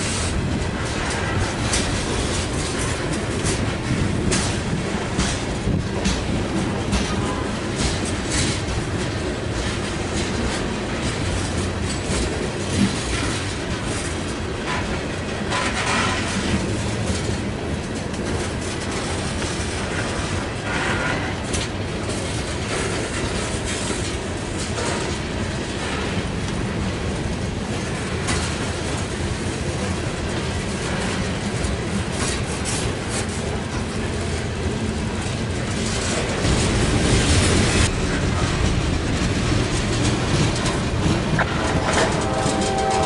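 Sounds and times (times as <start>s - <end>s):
freight train rumbling past: 0.0s - 43.0s
wheels clicking over rail joints: 0.0s - 43.0s.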